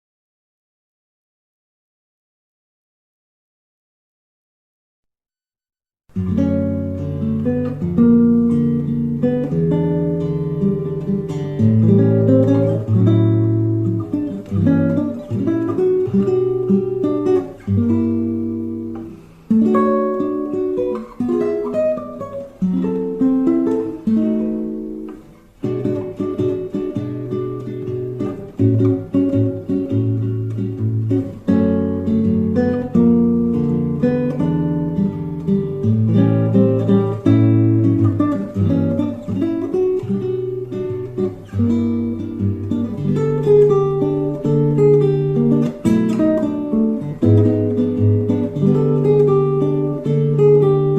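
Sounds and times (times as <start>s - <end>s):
acoustic guitar bossa nova: 6.1s - 50.9s.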